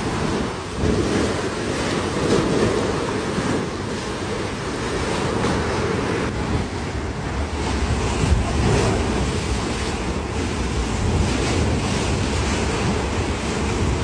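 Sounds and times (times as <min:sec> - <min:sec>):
waves washing: 0:00.0 - 0:14.0
wind buffeting microphone: 0:00.0 - 0:14.0.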